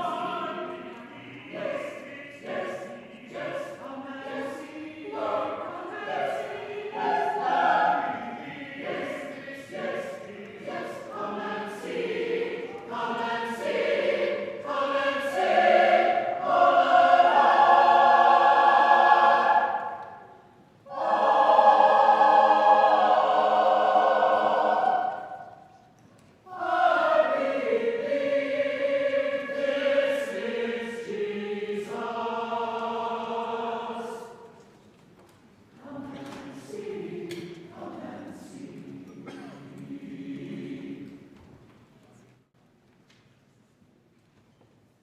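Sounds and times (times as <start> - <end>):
church choir singing a hymn: 0.0 - 34.8, 35.8 - 41.6.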